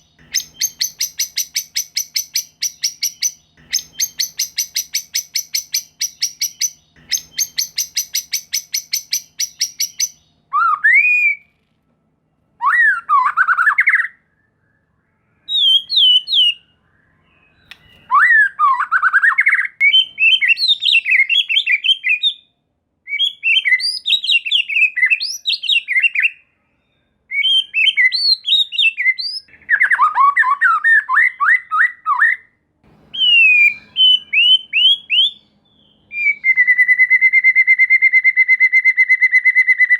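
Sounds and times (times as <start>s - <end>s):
bird singing: 0.0s - 11.6s, 12.6s - 39.9s.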